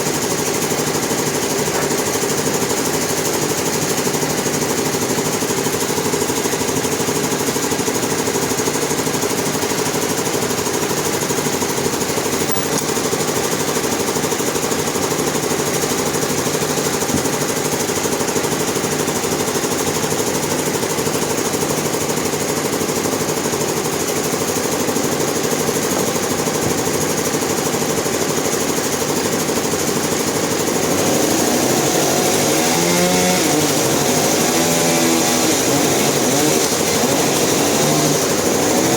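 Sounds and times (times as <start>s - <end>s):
sawmill machinery rattling: 0.0s - 38.9s.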